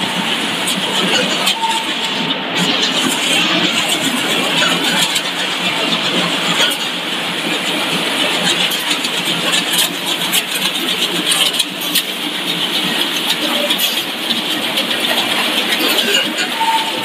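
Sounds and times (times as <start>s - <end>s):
dense machinery noise: 0.0s - 17.0s.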